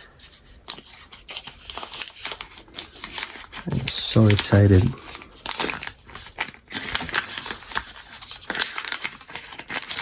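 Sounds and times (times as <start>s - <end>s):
plastic packaging rustling: 0.0s - 10.0s.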